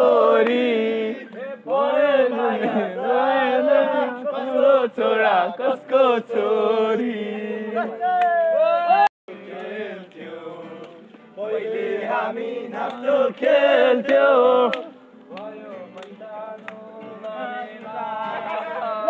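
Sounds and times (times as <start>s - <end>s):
group of people singing: 0.0s - 8.2s, 8.9s - 19.0s.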